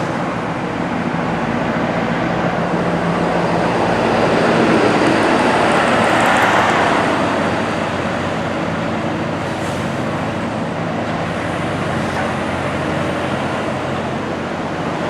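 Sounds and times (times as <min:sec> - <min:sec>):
heavy vehicle engine running: 0:00.0 - 0:15.0
road traffic noise: 0:00.0 - 0:15.0.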